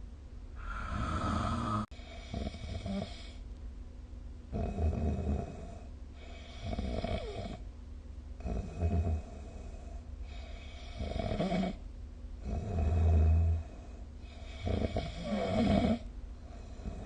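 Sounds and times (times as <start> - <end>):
person snoring: 0.6 - 3.4, 4.5 - 7.6, 8.4 - 11.8, 12.4 - 17.0
quiet breathing: 0.6 - 3.5, 4.6 - 7.7, 8.4 - 11.8, 12.4 - 17.0.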